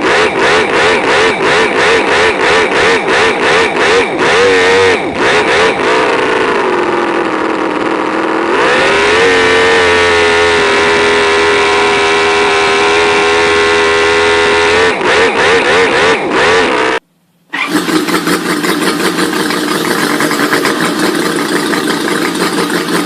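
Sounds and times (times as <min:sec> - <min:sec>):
engine running at high revs: 0:00.0 - 0:23.0.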